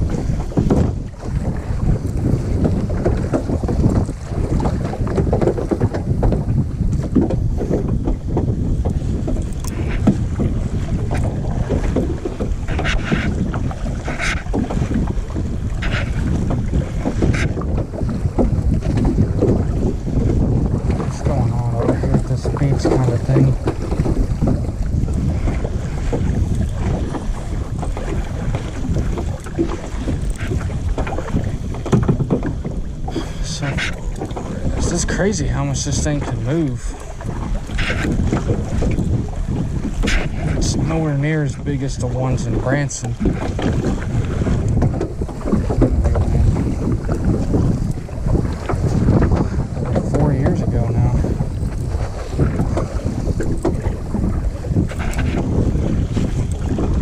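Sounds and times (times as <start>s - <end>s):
water sloshing around kayak: 0.0s - 57.0s
water splashes: 0.0s - 57.0s
wind buffeting microphone: 0.0s - 57.0s.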